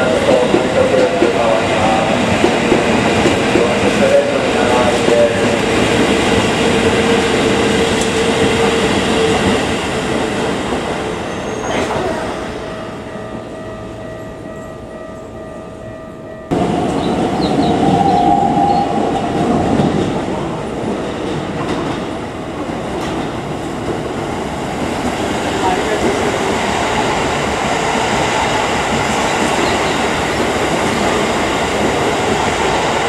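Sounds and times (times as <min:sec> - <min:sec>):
electric train whine: 0:00.0 - 0:33.0.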